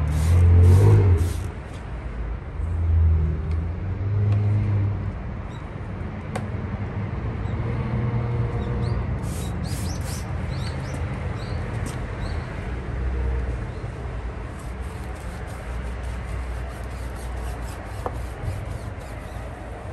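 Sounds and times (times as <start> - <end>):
vehicle engine rumbling: 0.0 - 19.9.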